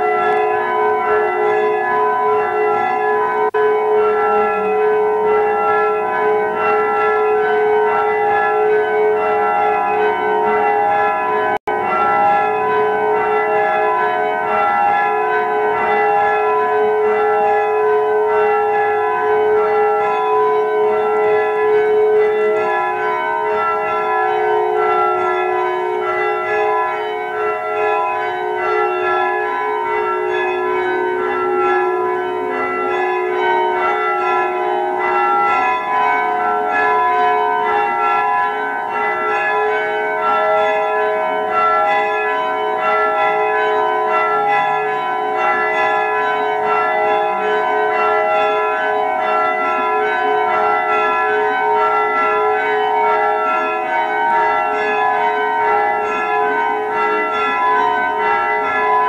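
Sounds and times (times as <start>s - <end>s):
church bells change-ringing: 0.0s - 59.0s.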